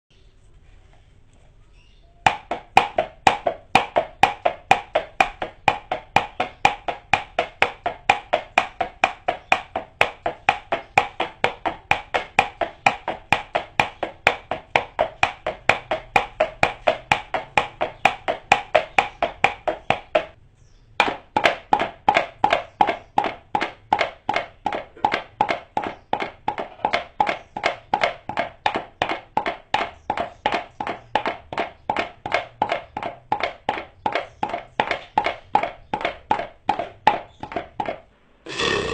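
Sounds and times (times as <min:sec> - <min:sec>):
imitation horse hoof clip-clop: 0:02.2 - 0:20.4, 0:21.0 - 0:38.1.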